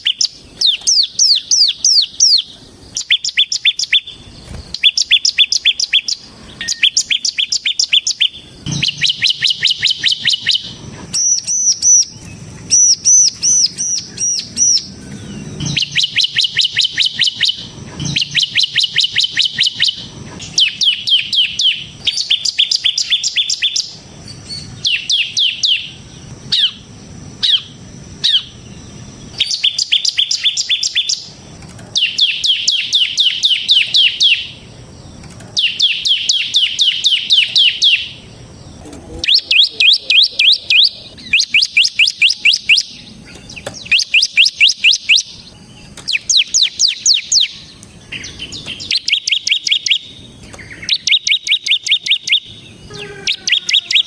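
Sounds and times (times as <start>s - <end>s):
bird singing rapid high notes: 0.0s - 31.4s, 32.0s - 34.8s, 35.6s - 54.0s.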